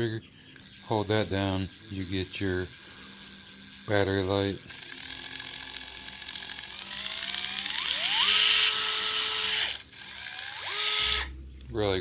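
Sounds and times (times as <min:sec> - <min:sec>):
cordless screwdriver motor whine: 0:00.0 - 0:11.4.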